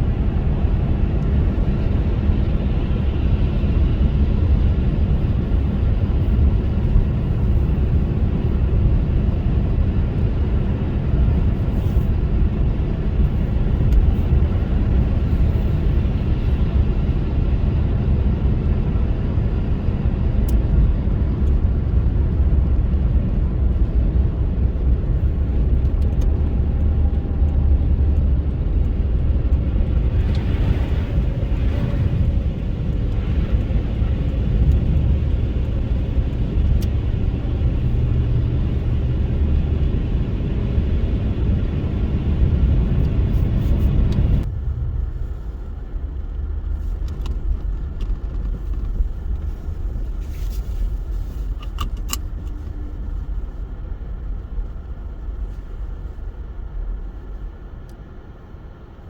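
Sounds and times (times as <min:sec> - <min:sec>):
tyres and engine rumbling: 0:00.0 - 0:59.0.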